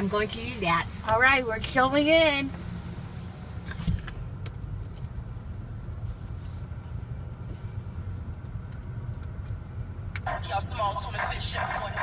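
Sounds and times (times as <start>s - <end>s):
car idling low rumble: 0.0s - 12.0s.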